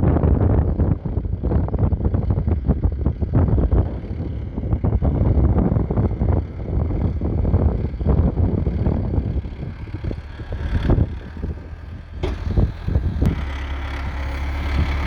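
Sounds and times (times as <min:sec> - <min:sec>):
diesel tractor engine running: 0:00.0 - 0:15.0
wind buffeting microphone: 0:00.0 - 0:15.0.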